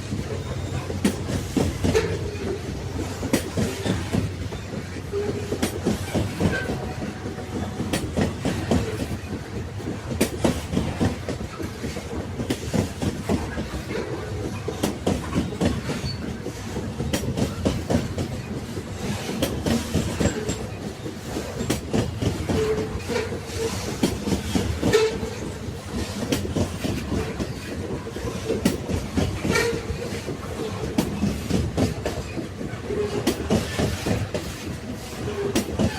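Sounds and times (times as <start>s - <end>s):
railway carriages rumbling: 0.0s - 35.9s
wheels clacking over rail joints: 0.0s - 35.9s.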